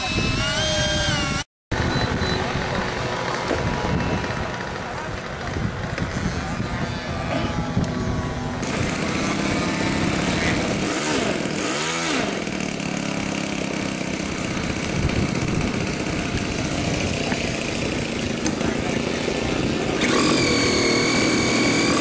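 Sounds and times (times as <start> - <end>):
model airplane engine running: 0.0 - 22.0.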